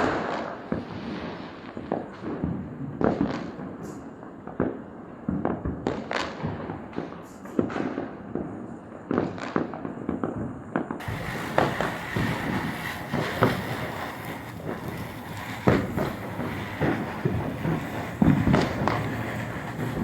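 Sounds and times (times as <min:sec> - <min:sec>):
firecrackers bursting: 0:00.0 - 0:20.0.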